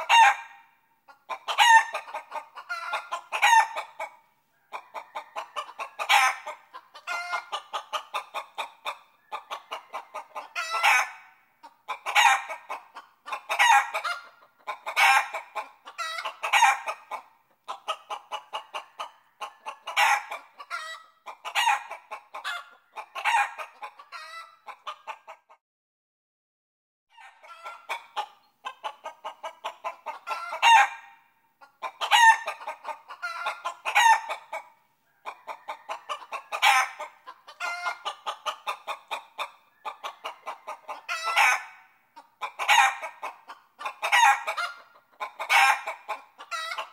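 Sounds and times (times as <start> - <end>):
chickens clucking and calling: 0.0 - 25.6, 27.1 - 46.9.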